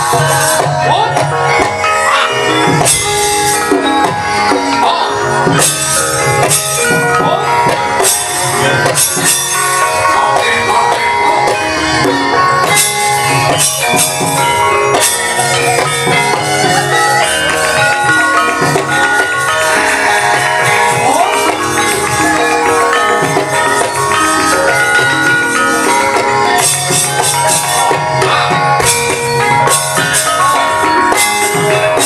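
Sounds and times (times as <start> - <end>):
gamelan ringing metallic tones: 0.0 - 32.0.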